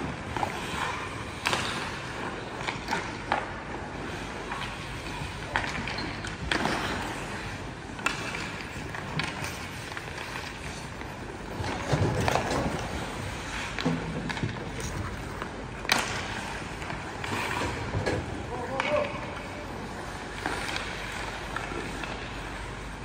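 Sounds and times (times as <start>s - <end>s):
skate blades scraping ice: 0.0s - 23.0s
sticks and puck clacking: 0.0s - 23.0s.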